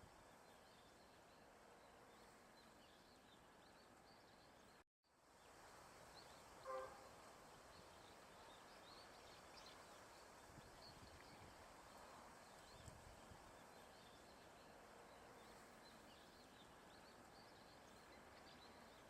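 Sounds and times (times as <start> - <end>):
pond ambience: 0.0 - 19.0.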